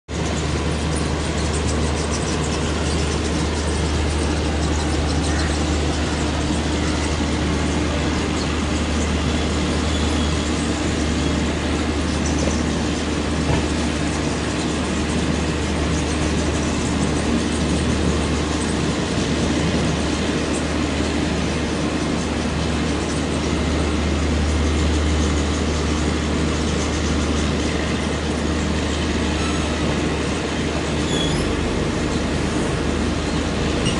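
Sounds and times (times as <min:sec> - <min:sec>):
train low drone and rumble: 0:00.0 - 0:33.9.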